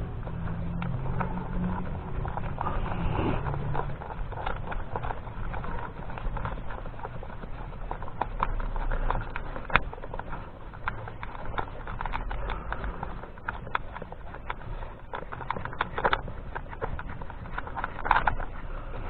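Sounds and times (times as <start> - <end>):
tools clicking on car parts: 0.0 - 19.0.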